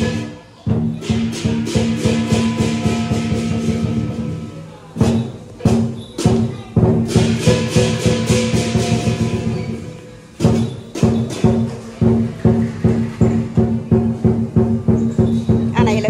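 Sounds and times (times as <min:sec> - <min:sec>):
big drum beaten fast: 0:00.0 - 0:16.0
cymbals clashing: 0:00.0 - 0:16.0.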